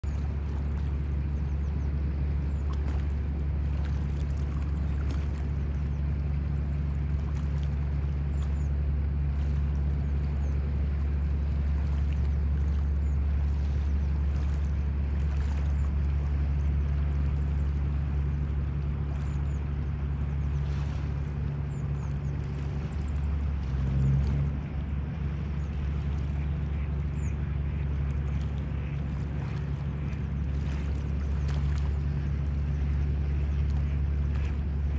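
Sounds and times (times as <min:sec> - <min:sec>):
low motor drone: 0:00.0 - 0:34.9.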